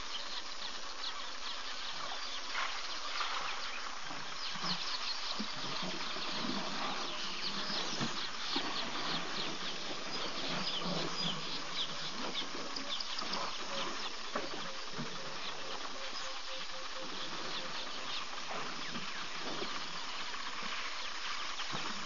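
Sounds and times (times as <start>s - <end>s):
birds calling: 0.0s - 22.0s
insects buzzing: 0.0s - 22.0s.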